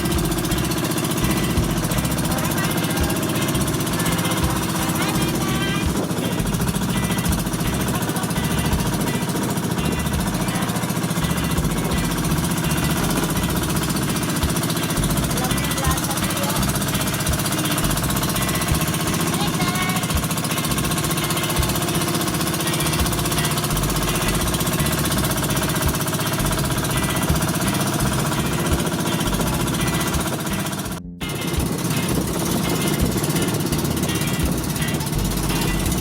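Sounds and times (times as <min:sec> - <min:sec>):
motorboat engine pulsing: 0:00.0 - 0:36.0.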